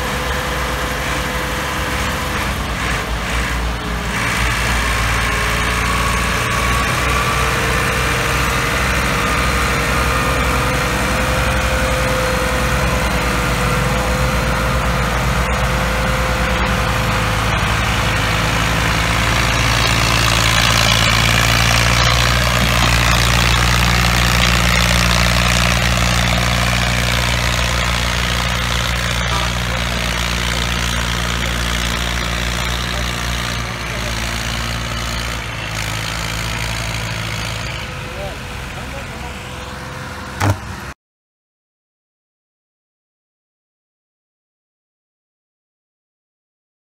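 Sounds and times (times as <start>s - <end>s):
tractor diesel engines under load: 0.0s - 41.0s.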